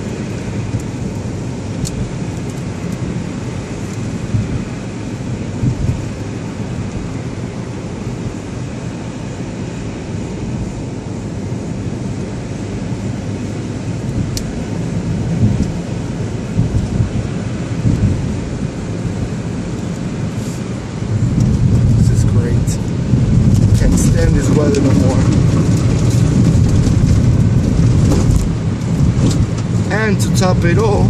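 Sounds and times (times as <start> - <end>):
car driving on snowy road: 0.0 - 31.0.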